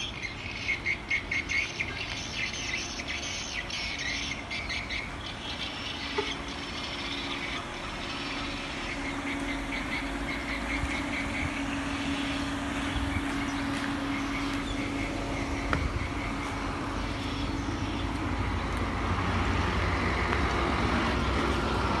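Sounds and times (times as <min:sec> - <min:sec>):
steady hum: 0:00.0 - 0:20.1
outdoor street noise: 0:00.0 - 0:22.0
vehicle engine idling: 0:00.0 - 0:22.0.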